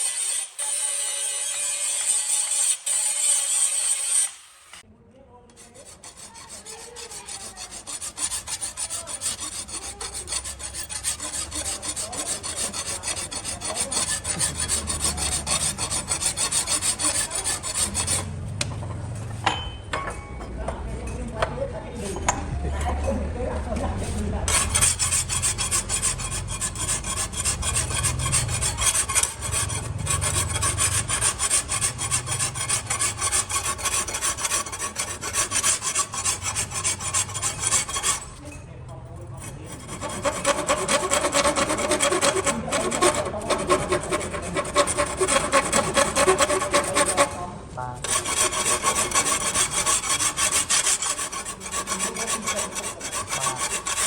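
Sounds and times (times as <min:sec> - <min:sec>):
file rasping on metal: 0:00.0 - 0:04.4, 0:05.5 - 0:18.4, 0:24.0 - 0:38.6, 0:39.2 - 0:54.0.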